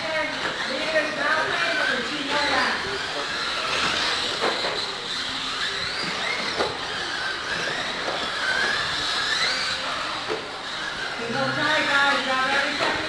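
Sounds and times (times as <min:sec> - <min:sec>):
toy truck motors whining: 0:00.0 - 0:13.0.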